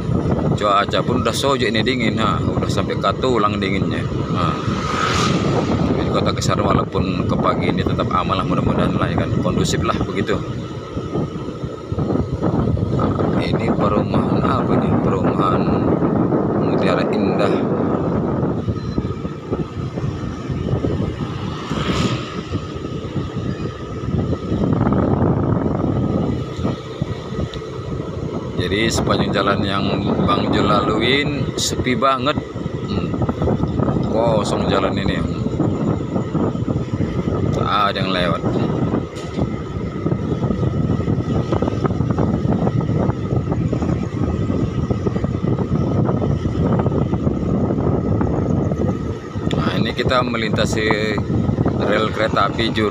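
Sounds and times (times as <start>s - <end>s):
motorcycle engine hum: 0.0s - 52.9s
wind buffeting microphone: 0.0s - 52.9s.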